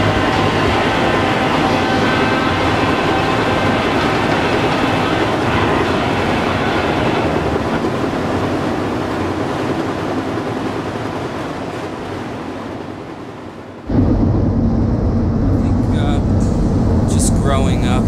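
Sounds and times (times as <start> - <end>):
freight train rolling: 0.0 - 18.0.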